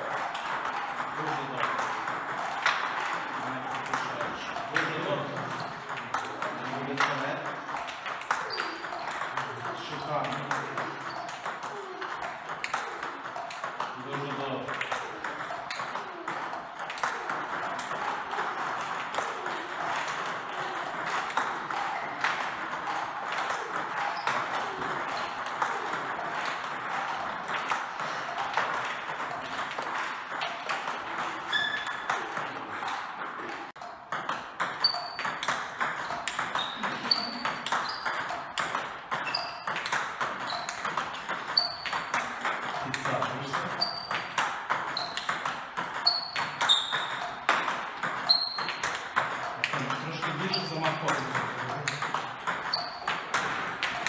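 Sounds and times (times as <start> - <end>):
ping-pong balls hitting paddles: 0.0 - 54.0.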